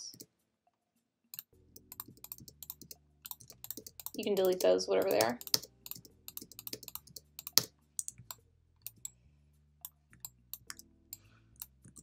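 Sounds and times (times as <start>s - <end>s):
mouse and keyboard clicks: 1.4s - 9.2s, 9.8s - 12.0s.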